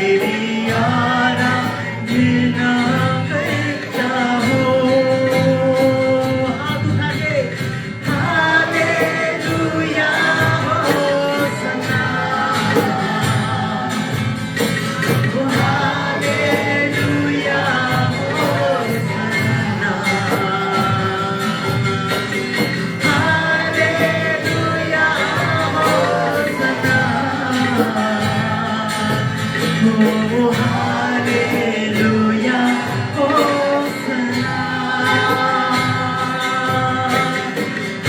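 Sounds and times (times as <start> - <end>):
drum beat: 0.0 - 38.0
gospel band playing: 0.0 - 38.0
voices singing: 0.0 - 38.0.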